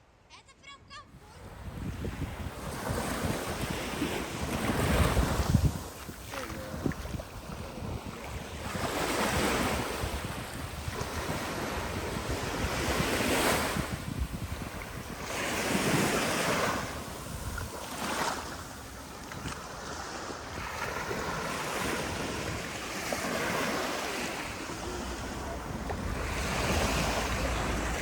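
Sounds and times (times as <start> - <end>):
wind buffeting microphone: 1.1 - 28.0
sea waves breaking: 1.2 - 28.0.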